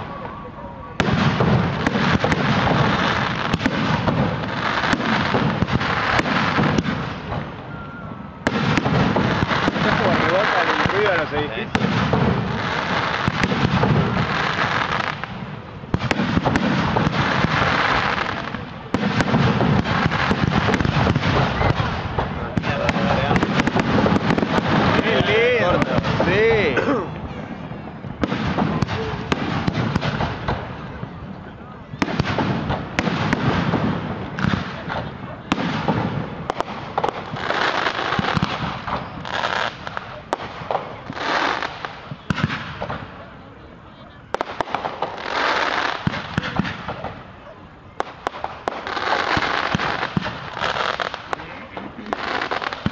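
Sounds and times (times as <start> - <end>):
fireworks bangs and pops: 1.0 - 43.4, 44.3 - 52.9.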